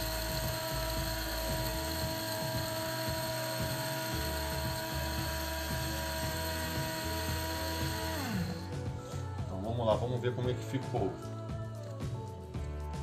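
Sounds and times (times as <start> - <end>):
coffee grinder whining: 0.0 - 13.0.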